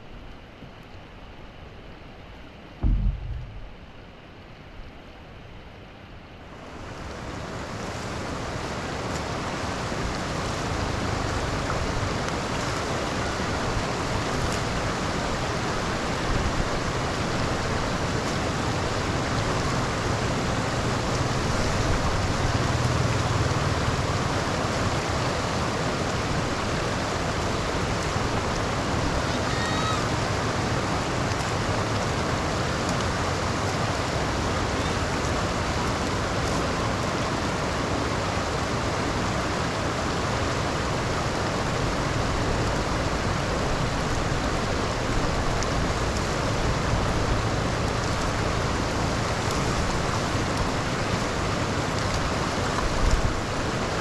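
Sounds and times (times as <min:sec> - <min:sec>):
rain: 0:00.0 - 0:54.0
running water: 0:00.0 - 0:54.0.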